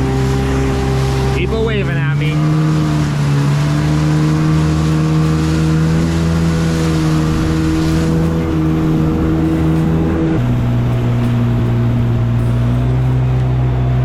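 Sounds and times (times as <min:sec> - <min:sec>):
jet ski engine running: 0:00.0 - 0:14.0
rushing water and wind: 0:00.0 - 0:14.0.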